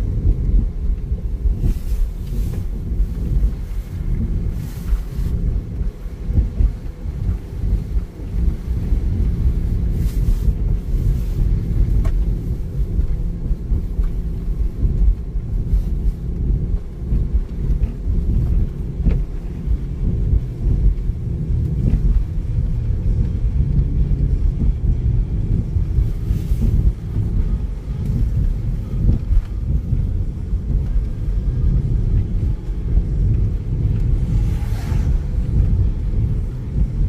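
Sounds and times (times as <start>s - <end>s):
car engine rumble: 0.0s - 37.0s
car tyres on wet road: 0.0s - 37.0s.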